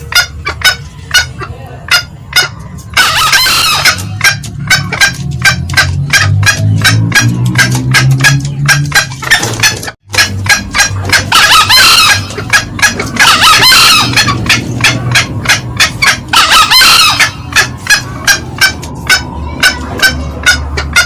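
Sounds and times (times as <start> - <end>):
junglefowl cackling: 0.0 - 21.0
harsh crowing calls: 2.0 - 21.0.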